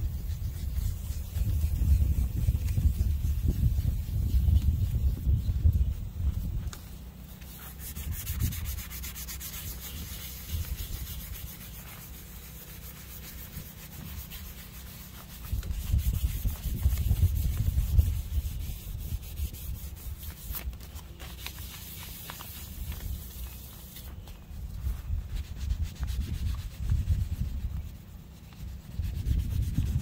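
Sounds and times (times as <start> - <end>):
sandpaper rubbing on brass: 0.0 - 30.0.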